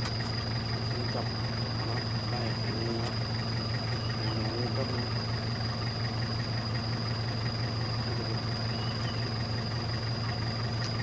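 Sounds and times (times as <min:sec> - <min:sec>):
engine idling: 0:00.0 - 0:11.0
high-pitched whine: 0:00.0 - 0:11.0.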